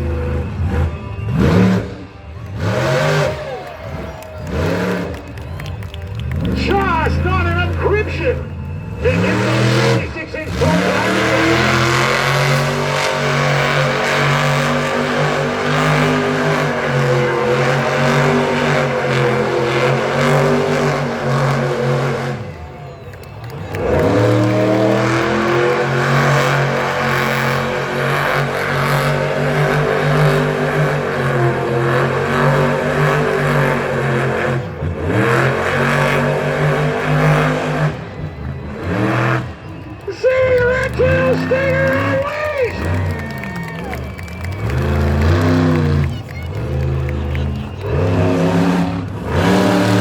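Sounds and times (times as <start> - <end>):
truck engine revving hard: 0.0 - 50.0.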